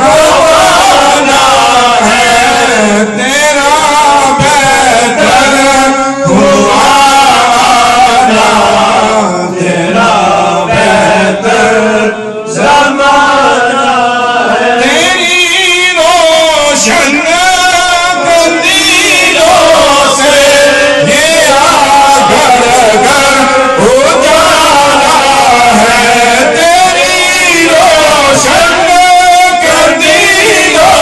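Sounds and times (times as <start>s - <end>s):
man chanting devotional poem: 0.0s - 31.0s.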